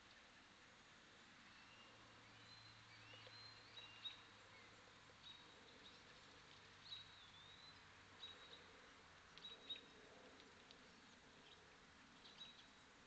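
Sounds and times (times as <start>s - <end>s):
faint steady hiss: 0.0s - 13.0s
small birds chirping: 1.4s - 13.0s.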